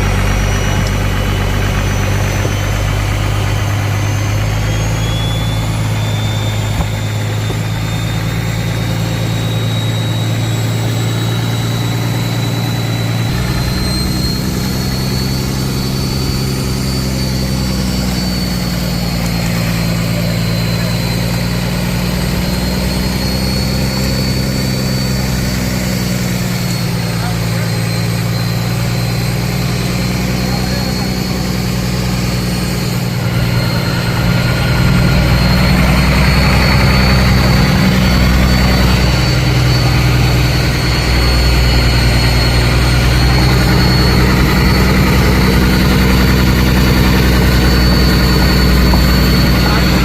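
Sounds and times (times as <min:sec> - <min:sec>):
boat engine running: 0:00.0 - 0:50.0
faint high whine: 0:00.0 - 0:50.0.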